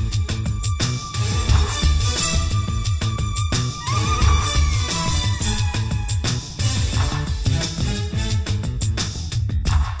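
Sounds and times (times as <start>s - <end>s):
film song with steady beat: 0.0s - 10.0s.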